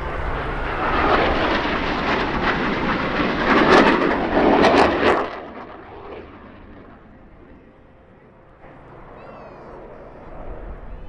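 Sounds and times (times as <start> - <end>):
jet passing with crackles: 0.0 - 11.0.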